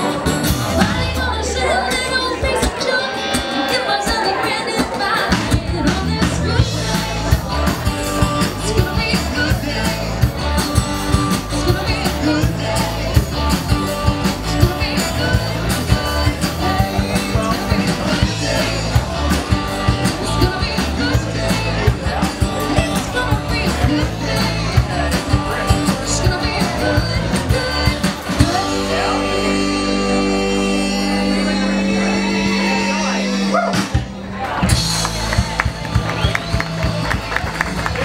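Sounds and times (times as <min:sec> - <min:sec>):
drum kit steady beat: 0:00.0 - 0:38.0
electric guitars: 0:00.0 - 0:38.0.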